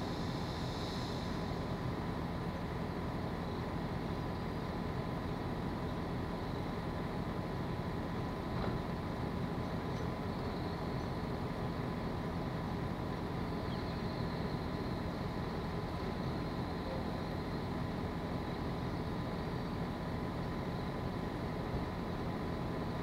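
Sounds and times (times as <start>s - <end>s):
distant machinery rumble: 0.0s - 23.0s.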